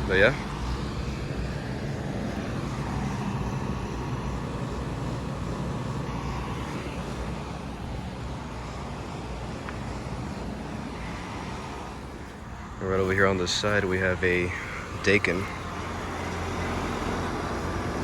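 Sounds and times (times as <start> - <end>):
condenser fans rushing: 0.0 - 18.0
low compressor hum: 0.0 - 18.0.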